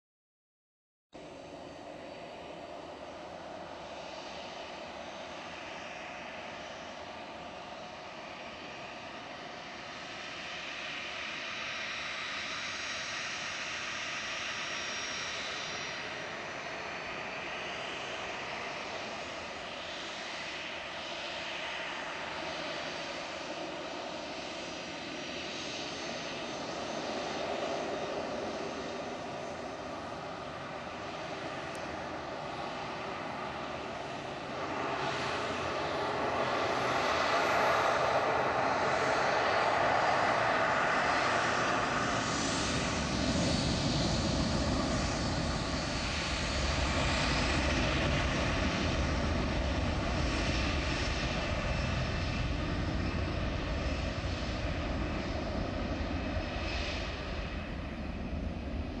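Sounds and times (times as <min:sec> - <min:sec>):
faint high whine: 0:01.2 - 0:59.0
jet engines rushing: 0:01.3 - 0:59.0.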